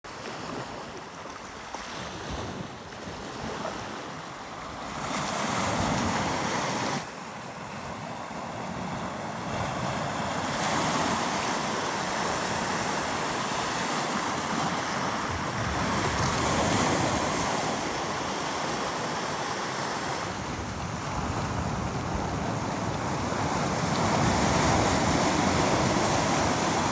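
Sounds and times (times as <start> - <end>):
small waves washing on beach: 0.1 - 26.9
wind buffeting microphone: 0.5 - 26.9.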